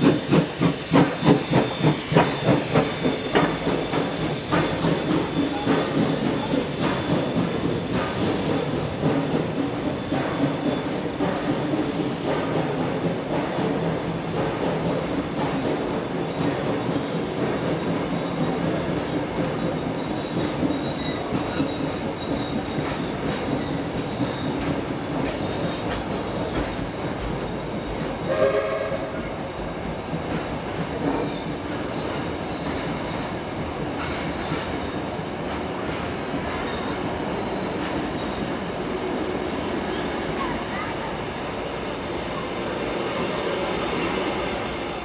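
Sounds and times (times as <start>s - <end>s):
train wheels rumbling on rails: 0.0s - 45.0s
high wheel squeal: 0.1s - 45.0s.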